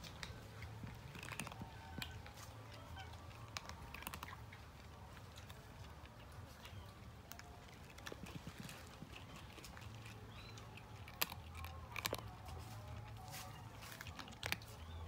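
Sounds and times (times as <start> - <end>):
cat crunching dry kibble: 0.0 - 15.0.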